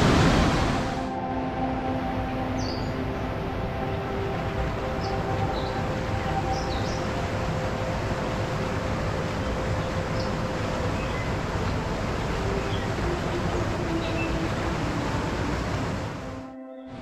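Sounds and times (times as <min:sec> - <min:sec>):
stream rushing over stones: 0:00.0 - 0:01.1, 0:02.1 - 0:16.4.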